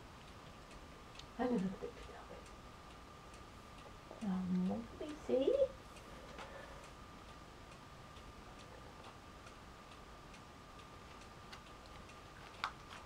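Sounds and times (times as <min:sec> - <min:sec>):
faint high-pitched hum: 0:00.0 - 0:13.0
faint regular ticking: 0:00.0 - 0:13.0.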